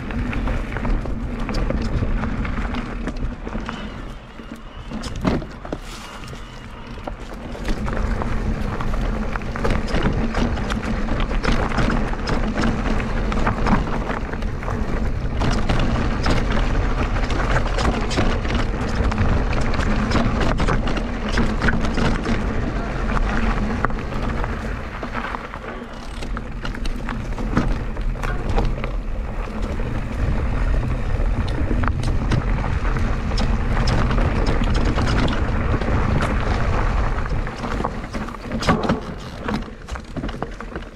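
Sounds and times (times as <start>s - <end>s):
bike rattling and knocking: 0.0s - 40.9s
bike tyres on dirt trail: 0.0s - 40.9s.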